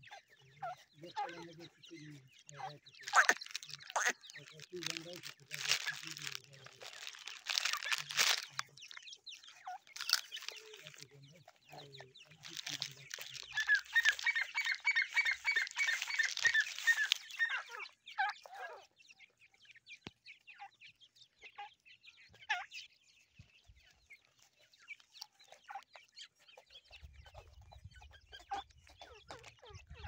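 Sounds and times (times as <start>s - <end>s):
partridge chicks calling: 0.0s - 30.0s.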